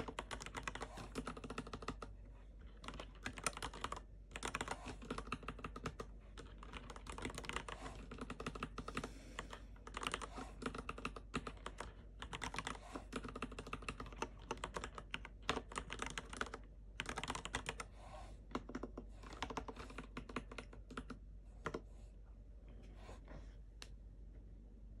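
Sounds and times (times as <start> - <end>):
mechanical keyboard typing: 0.0 - 2.1, 2.7 - 17.9, 18.5 - 21.8.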